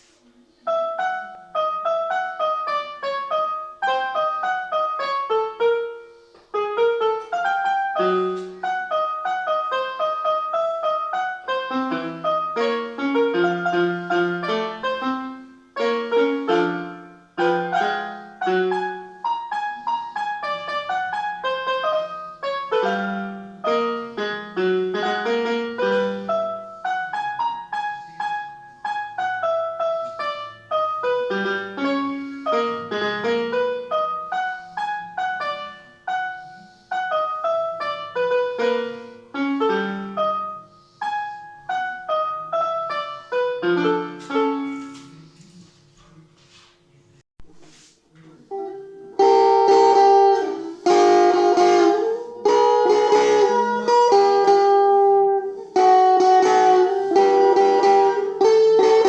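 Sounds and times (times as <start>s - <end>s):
solo piano playing: 0.0s - 45.3s, 48.4s - 59.0s.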